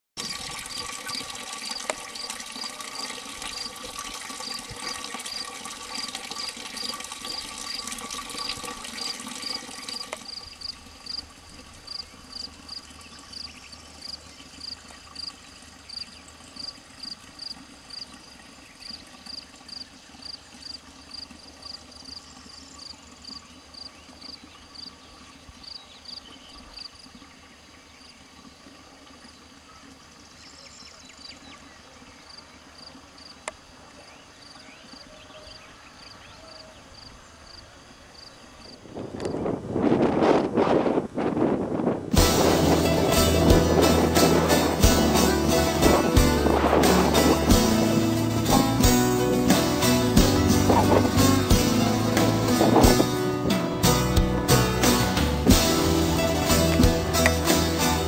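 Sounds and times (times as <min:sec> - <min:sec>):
fountain water splashing: 0:00.2 - 0:36.0, 0:41.4 - 0:58.0.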